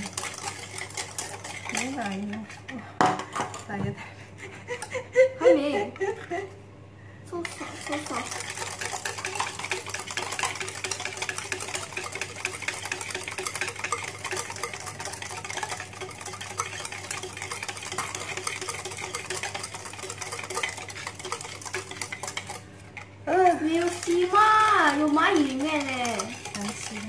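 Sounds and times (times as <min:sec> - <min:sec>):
whisk clicking against bowl: 0:00.0 - 0:02.8, 0:07.4 - 0:27.0.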